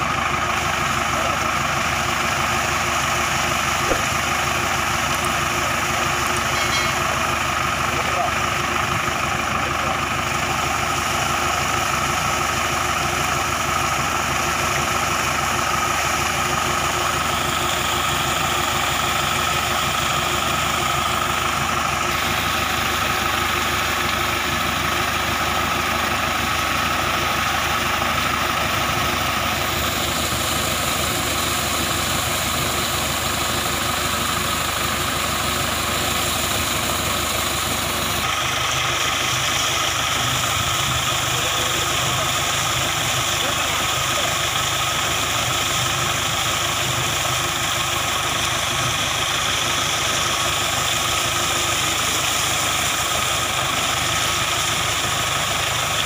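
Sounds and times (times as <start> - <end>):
engine idling: 0.0 - 56.0
water jet splashing on tractor: 0.0 - 56.0.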